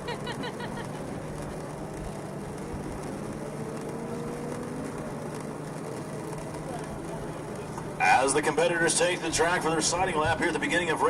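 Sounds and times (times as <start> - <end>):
distant motorcycle engines humming: 0.0 - 11.0.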